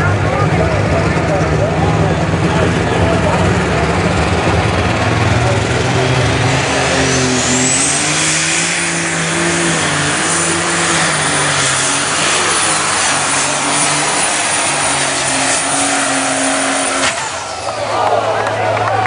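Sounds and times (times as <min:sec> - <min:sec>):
diesel engine running flat out: 0:00.0 - 0:19.0
high turbo whine: 0:00.0 - 0:19.0.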